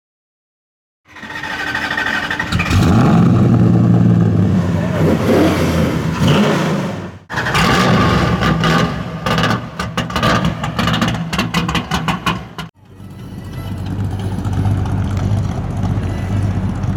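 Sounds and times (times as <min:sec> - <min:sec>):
loud car engine through exhaust: 0:02.3 - 0:16.9.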